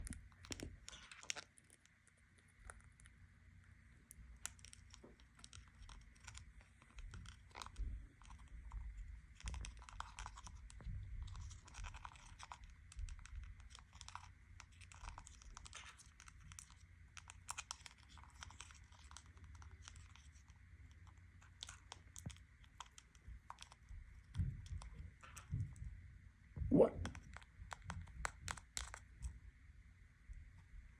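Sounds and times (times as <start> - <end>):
bird pecking and scratching dish: 0.0 - 3.2, 4.1 - 25.9, 27.0 - 29.4.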